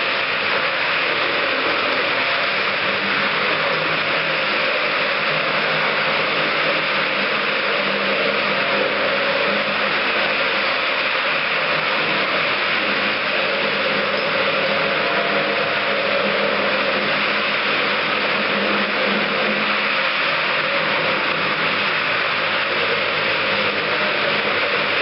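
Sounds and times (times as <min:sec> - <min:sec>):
floor machine motor hum: 0:00.0 - 0:25.0.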